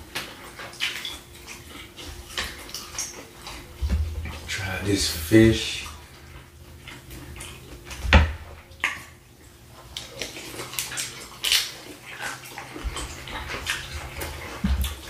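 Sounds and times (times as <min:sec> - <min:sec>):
wet chewing and lip-smacking: 0:00.0 - 0:15.0.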